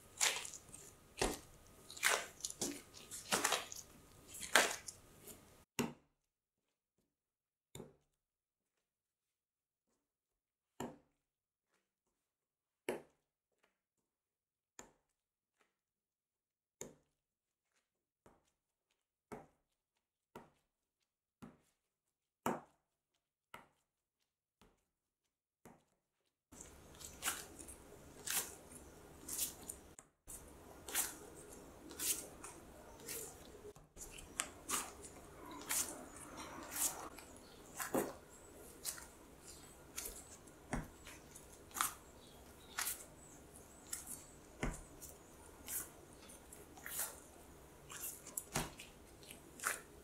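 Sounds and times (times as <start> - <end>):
dough kneaded and squishing: 0.0 - 16.1, 16.8 - 50.0.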